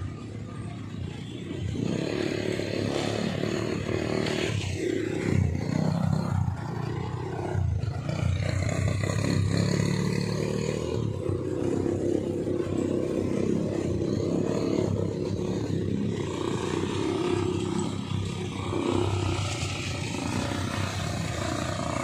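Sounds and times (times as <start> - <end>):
quad bike engines running: 0.0 - 22.0.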